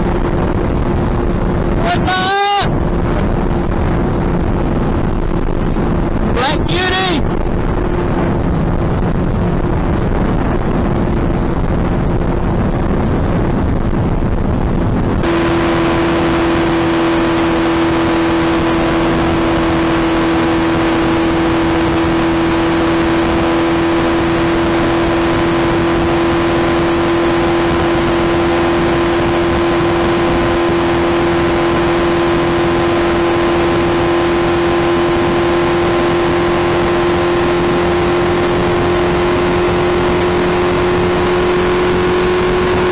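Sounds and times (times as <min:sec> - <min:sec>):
motorcycle engine running: 0:00.0 - 0:01.8, 0:07.3 - 0:12.6, 0:15.1 - 0:42.9
wind noise: 0:00.0 - 0:42.9.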